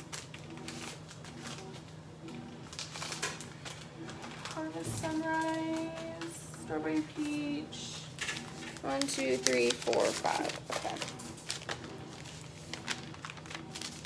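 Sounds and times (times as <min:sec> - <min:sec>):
plastic packets rustling: 0:00.0 - 0:14.0.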